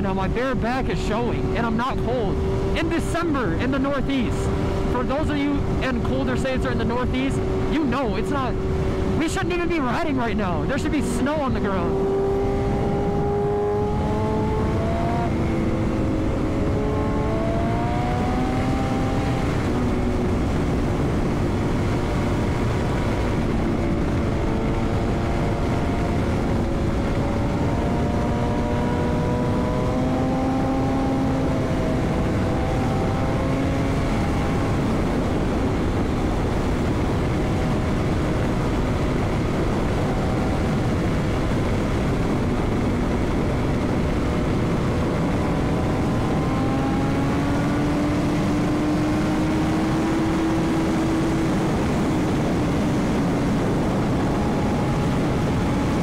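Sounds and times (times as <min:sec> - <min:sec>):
motorcycle engine running: 0:00.0 - 0:56.0
wind rushing: 0:00.0 - 0:56.0.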